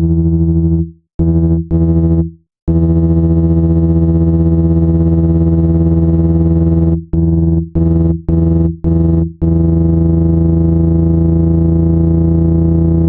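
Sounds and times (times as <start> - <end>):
low buzzing synthesized tone: 0.0 - 13.0.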